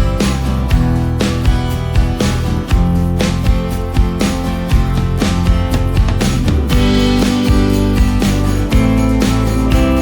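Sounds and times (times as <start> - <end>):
upbeat acoustic guitar music: 0.0 - 10.0.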